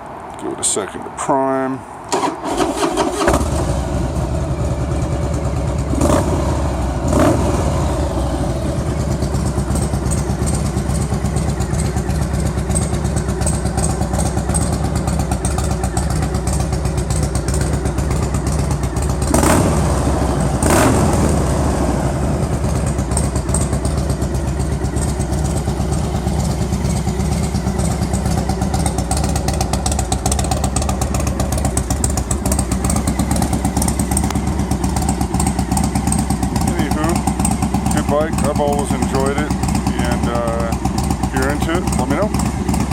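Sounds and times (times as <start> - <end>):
motorcycle engine revving: 2.2 - 42.9
motorcycle engine idling: 3.4 - 42.9.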